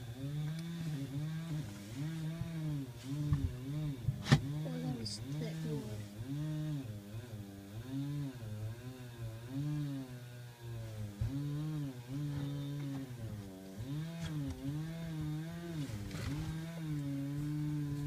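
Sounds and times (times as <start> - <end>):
chainsaw engine revving: 0.0 - 18.0.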